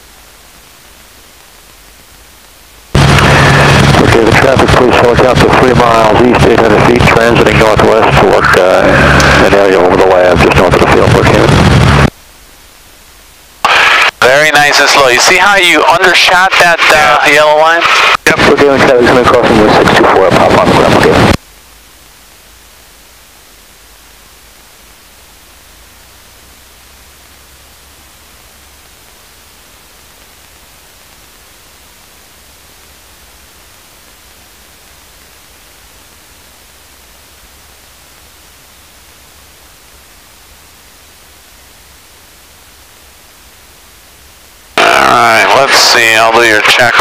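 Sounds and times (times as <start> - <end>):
static hiss: 0.0 - 47.0.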